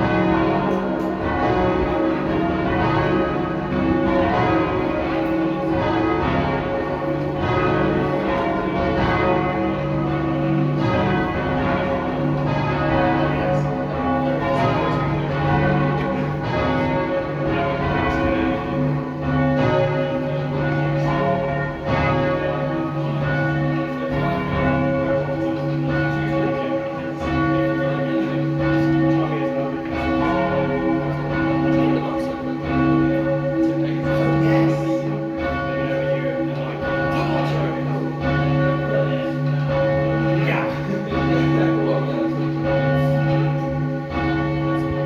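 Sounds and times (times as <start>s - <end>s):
church bells change ringing: 0.0s - 45.0s.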